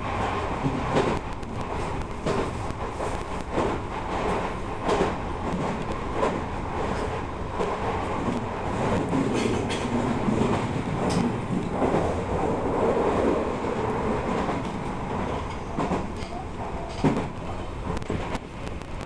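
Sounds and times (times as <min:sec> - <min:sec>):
train wheels rumbling on rail: 0:00.0 - 0:19.0
wheels clicking over rail joints: 0:00.6 - 0:19.0.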